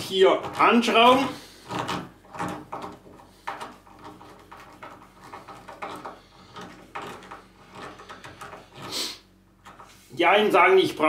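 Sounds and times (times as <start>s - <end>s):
screwdriver scraping screws: 0.0s - 10.0s.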